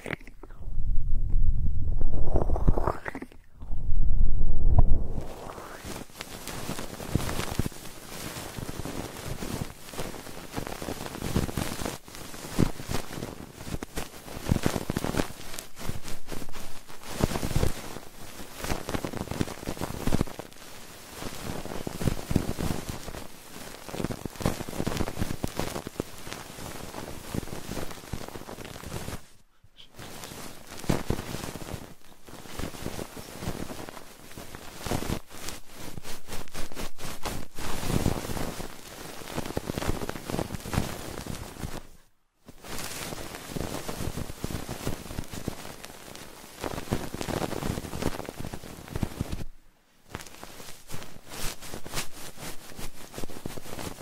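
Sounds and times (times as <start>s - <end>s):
crackly rustling and scratching: 5.1s - 54.0s.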